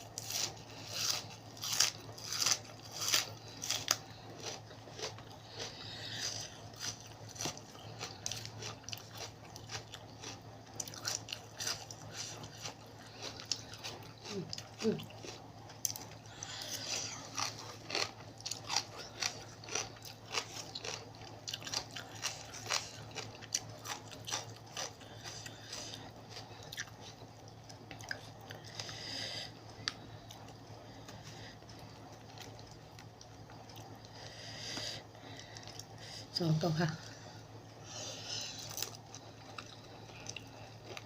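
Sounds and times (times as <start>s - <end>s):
person chewing crunchy food: 0.0s - 36.2s, 37.0s - 41.0s.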